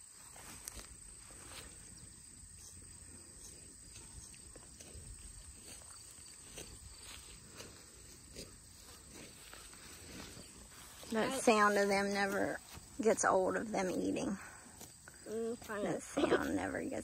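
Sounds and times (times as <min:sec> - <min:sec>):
cattle tearing and chewing grass: 0:00.3 - 0:13.0, 0:14.6 - 0:17.0.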